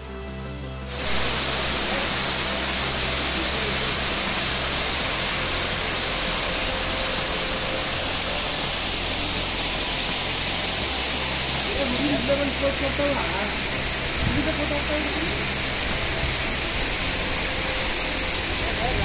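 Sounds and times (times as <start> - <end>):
music: 0.0 - 19.0
waterfall rushing: 0.9 - 19.0.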